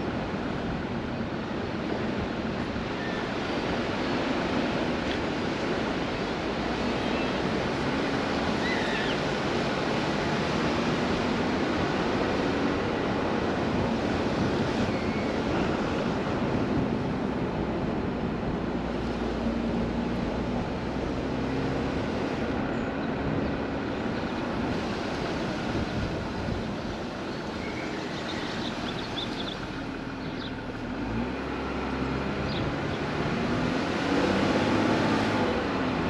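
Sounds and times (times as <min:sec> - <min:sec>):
ocean surf on beach: 0:00.0 - 0:36.0
wind: 0:00.0 - 0:36.0.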